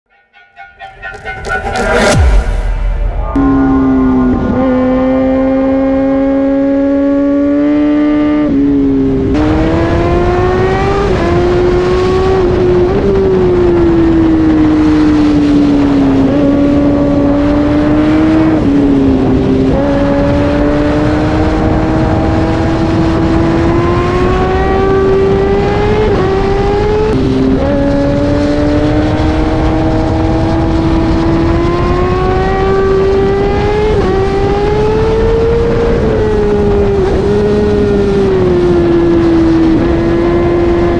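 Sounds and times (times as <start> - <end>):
motorcycle engine accelerating: 0.8 - 40.9
wind and road noise: 0.9 - 40.9.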